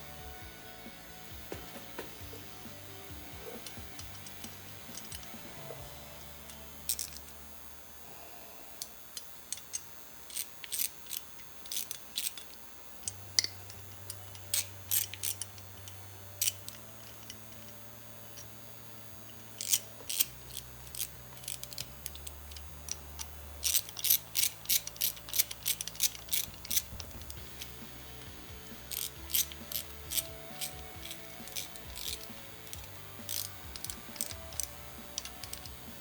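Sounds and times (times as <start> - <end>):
ratchet wrench clicking: 2.6 - 7.3, 9.1 - 18.6, 19.3 - 36.0.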